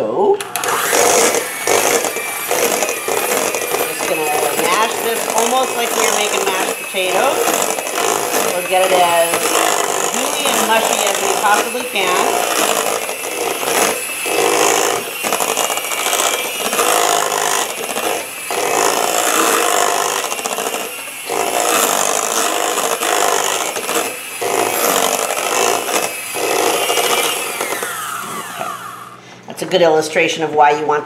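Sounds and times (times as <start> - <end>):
electric hand mixer churning mash: 0.4 - 29.4.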